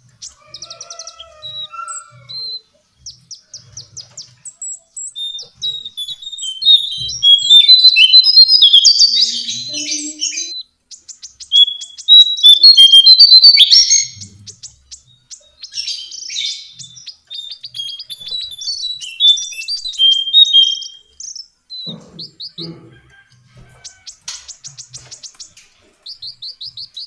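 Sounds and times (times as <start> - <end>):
bird song with high chirps and trills: 0.0 - 27.0.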